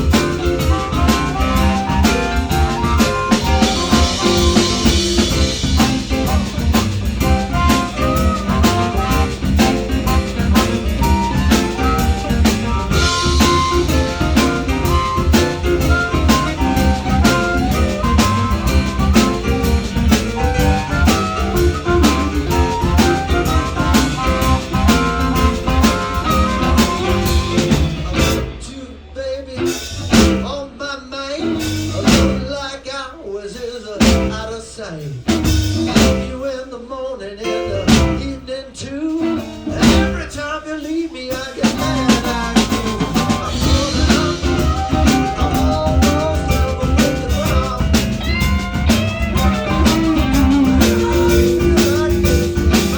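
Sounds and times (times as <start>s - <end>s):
live blues band playing: 0.0s - 28.7s, 29.5s - 30.8s, 31.4s - 32.6s, 33.8s - 36.5s, 37.4s - 52.9s.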